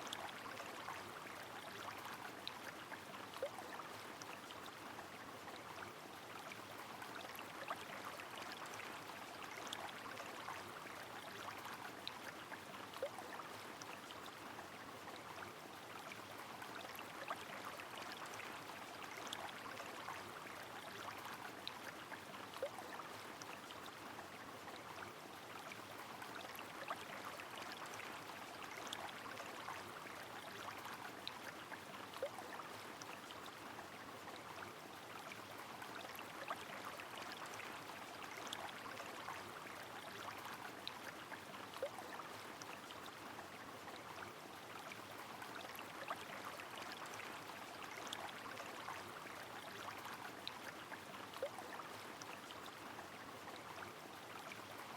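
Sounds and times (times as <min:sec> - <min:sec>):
flowing river: 0:00.0 - 0:54.9.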